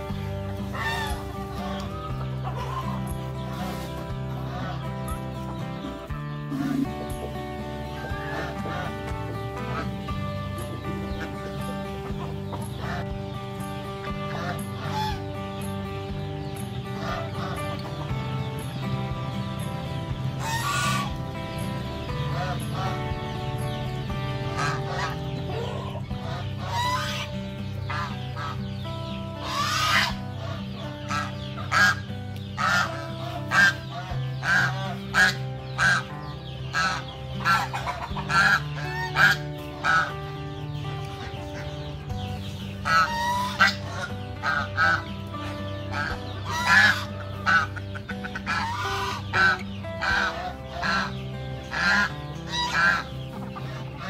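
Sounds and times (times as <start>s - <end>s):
background music low notes: 0.0s - 54.0s
chickens clucking: 0.0s - 54.0s
geese honking: 0.0s - 54.0s.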